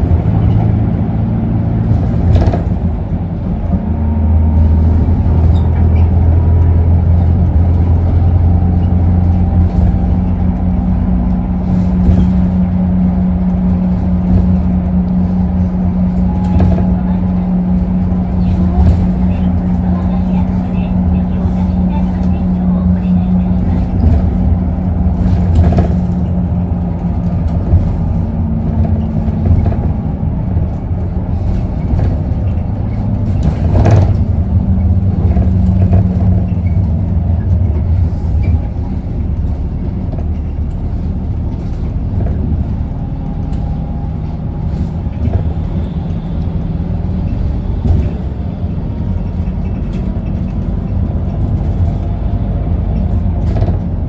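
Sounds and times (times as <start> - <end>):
bus diesel engine hum: 0.0 - 54.0
rattles: 1.6 - 3.8, 4.5 - 54.0.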